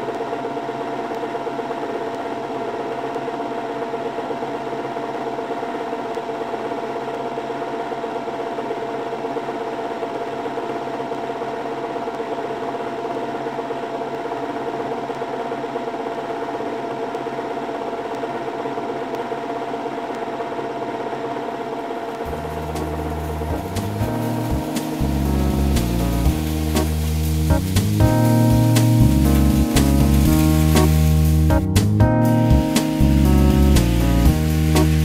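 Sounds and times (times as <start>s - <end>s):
small machine whirring hum: 0.0s - 31.6s.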